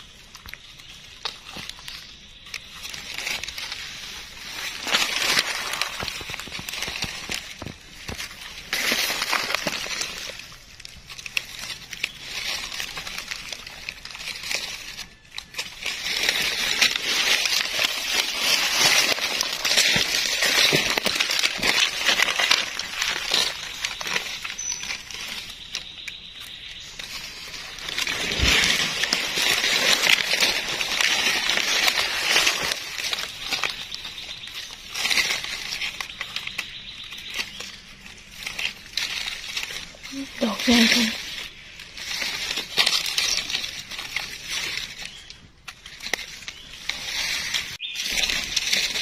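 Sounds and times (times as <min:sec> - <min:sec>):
dry leaves rustling and crackling: 0:00.0 - 0:49.0.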